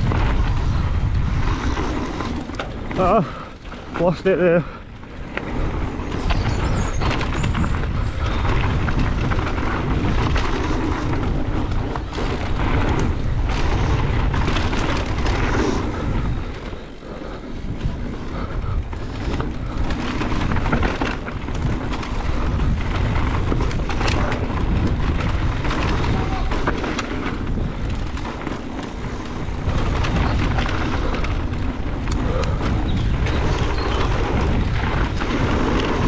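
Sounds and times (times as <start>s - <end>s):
bike knocks and rattles: 0.0s - 36.0s
tyre noise: 0.0s - 36.0s
wind buffeting microphone: 0.0s - 36.0s.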